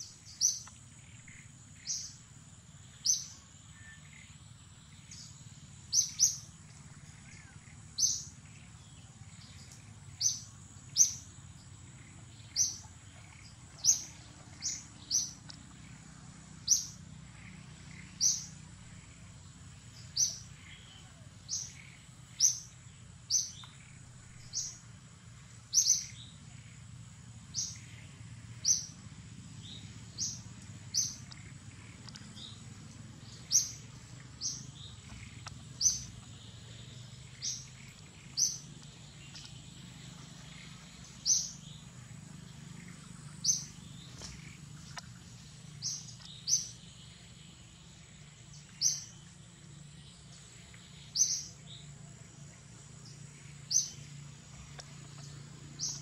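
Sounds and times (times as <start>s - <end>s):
bird chirping: 0.0s - 25.0s, 25.6s - 51.9s, 52.5s - 56.0s.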